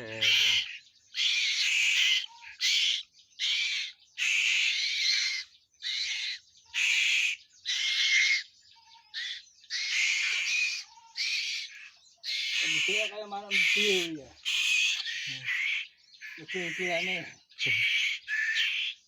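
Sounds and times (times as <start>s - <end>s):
bird harsh hissing screeches: 0.2s - 8.4s, 9.2s - 17.2s.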